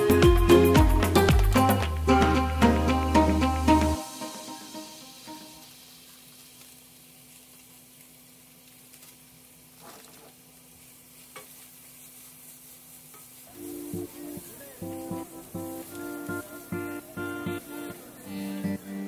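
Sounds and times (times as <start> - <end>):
food sizzling in frying pan: 3.0 - 19.0.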